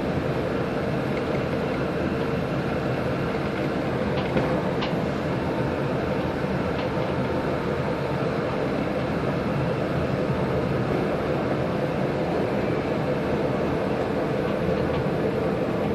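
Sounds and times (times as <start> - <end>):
train rumbling on track: 0.0 - 15.9.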